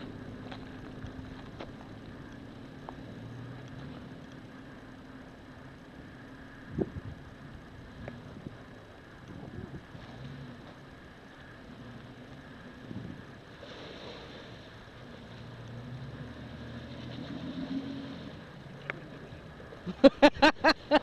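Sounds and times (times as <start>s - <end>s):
car engine running at low revs: 0.0s - 21.0s.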